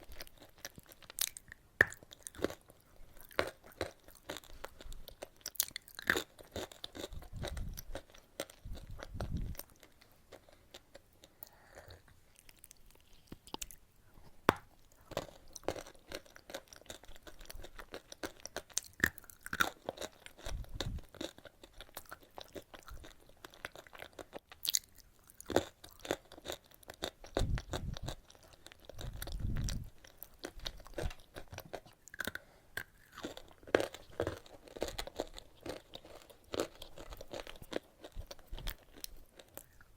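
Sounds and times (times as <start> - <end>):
wet chewing: 0.0 - 13.9, 14.5 - 39.9.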